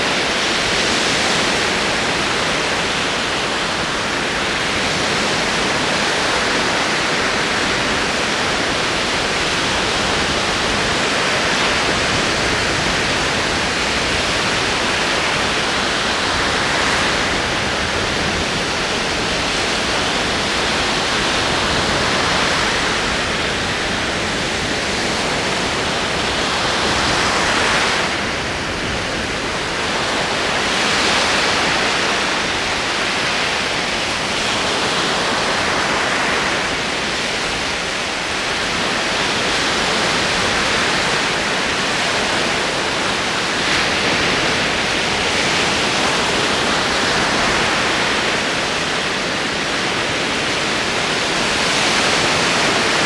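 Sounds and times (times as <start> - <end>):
ocean waves on shore: 0.0 - 53.0.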